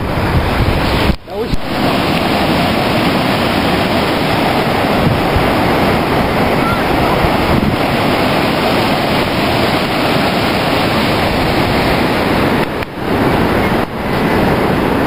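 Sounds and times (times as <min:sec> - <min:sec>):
ocean surf rushing: 0:00.0 - 0:15.0
wind on microphone: 0:00.0 - 0:15.0.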